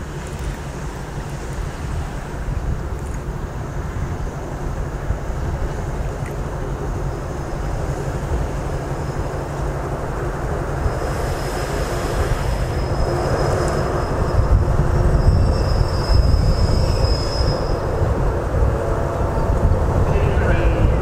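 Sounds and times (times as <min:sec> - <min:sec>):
diesel locomotive rumbling: 0:00.0 - 0:21.0.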